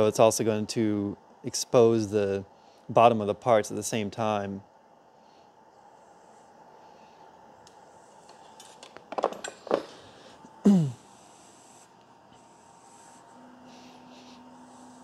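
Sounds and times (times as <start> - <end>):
faint steady whine: 0.0 - 15.0.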